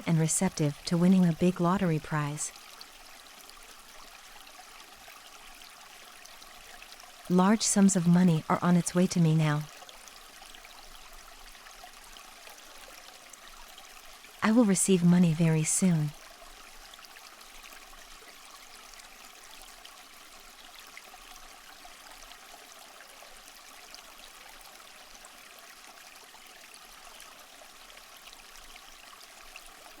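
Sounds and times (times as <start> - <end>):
water stream trickling: 0.0 - 30.0.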